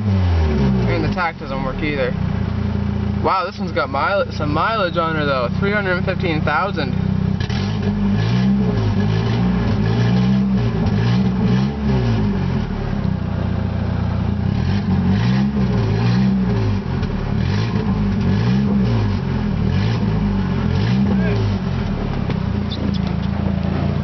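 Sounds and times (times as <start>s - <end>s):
car engine revving without exhaust: 0.0s - 24.0s.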